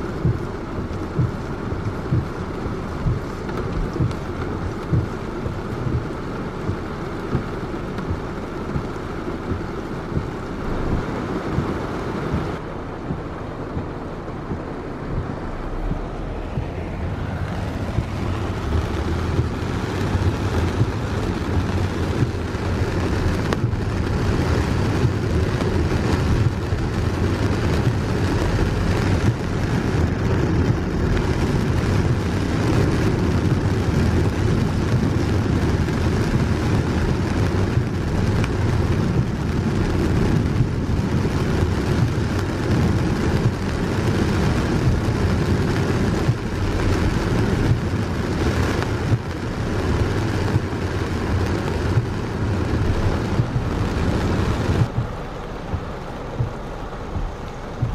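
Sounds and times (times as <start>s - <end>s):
heavy rain on a car: 0.0s - 57.9s
tyres running through water: 0.0s - 57.9s.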